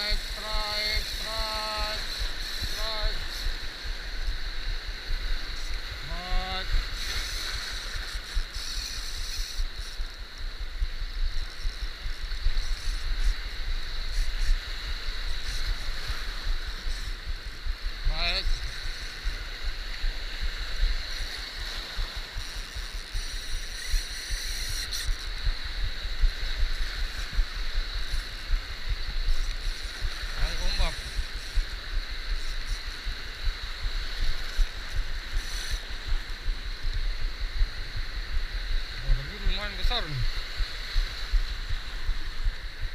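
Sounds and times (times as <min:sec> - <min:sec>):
low rumble of surf: 0:00.0 - 0:42.9
wind buffeting microphone: 0:00.0 - 0:42.9.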